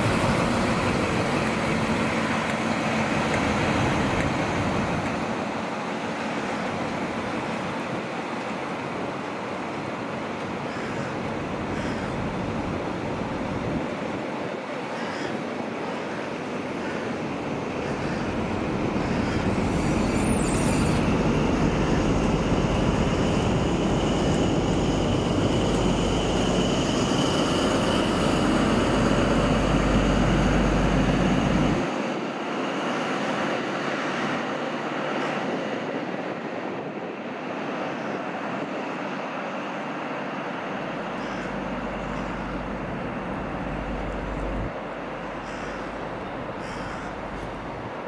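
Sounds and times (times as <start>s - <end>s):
train rumbling and rattling: 0.0s - 48.0s.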